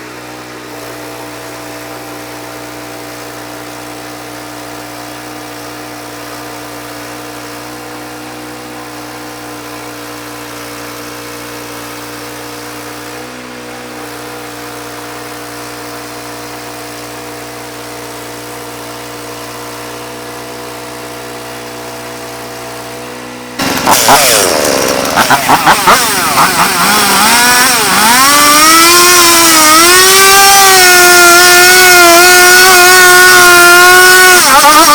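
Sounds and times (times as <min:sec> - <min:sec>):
sawmill engine idling: 0:00.0 - 0:16.1, 0:20.6 - 0:34.9.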